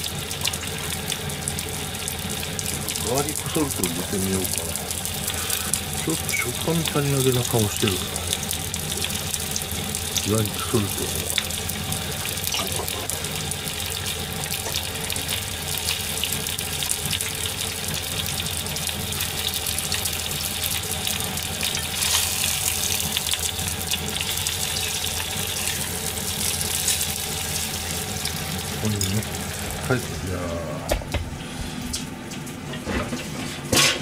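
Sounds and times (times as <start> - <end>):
chicken sizzling in a frying pan: 0.0 - 32.7
low steady hum: 0.0 - 34.0.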